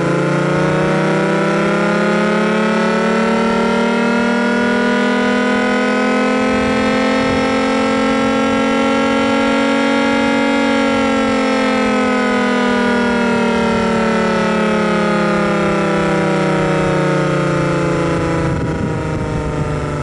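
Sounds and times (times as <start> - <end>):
warning siren wailing: 0.0 - 20.0.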